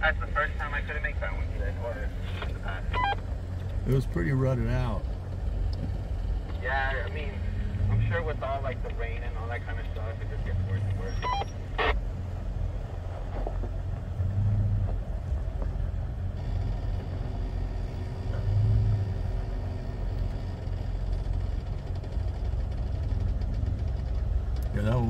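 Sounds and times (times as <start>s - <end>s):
vehicle engine running at low speed: 0.0s - 25.0s.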